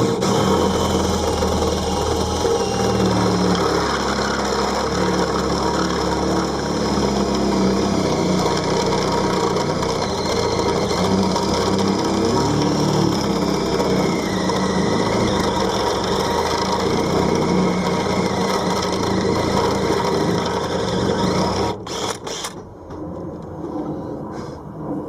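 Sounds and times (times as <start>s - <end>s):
power drill cutting: 0.0s - 22.6s.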